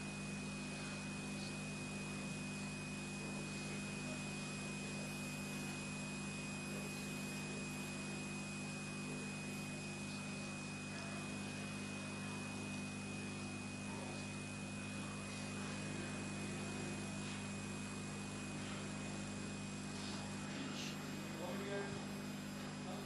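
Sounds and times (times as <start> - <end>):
electrical hum and hiss: 0.0 - 23.0.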